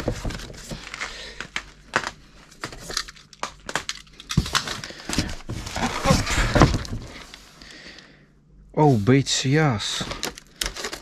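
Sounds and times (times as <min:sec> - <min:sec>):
cardboard and plastic wrap rustling: 0:00.0 - 0:07.5, 0:08.8 - 0:11.0.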